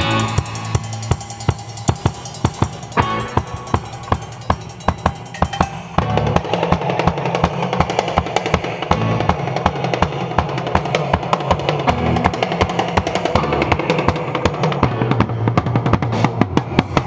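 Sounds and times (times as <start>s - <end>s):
drum kit beat: 0.0s - 17.0s
live rock band playing: 0.0s - 17.0s.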